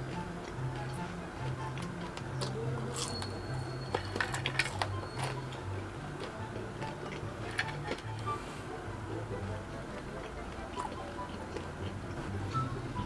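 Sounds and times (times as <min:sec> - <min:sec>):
person eating: 0:00.0 - 0:08.8, 0:09.4 - 0:12.4
background music with bass line: 0:00.0 - 0:13.0.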